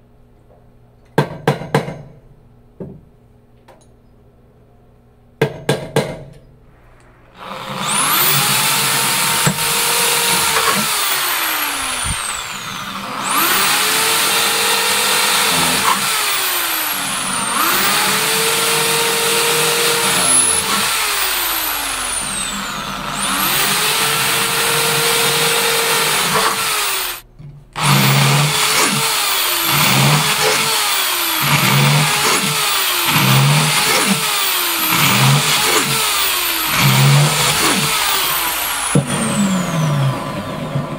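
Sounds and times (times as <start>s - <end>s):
electric drill boring holes: 7.4s - 40.9s.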